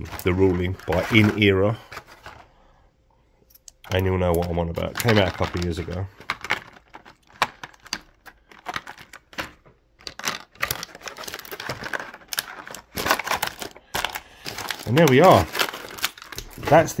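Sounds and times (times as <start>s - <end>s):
plastic parts clicking and crackling: 0.0s - 2.5s, 3.5s - 17.0s.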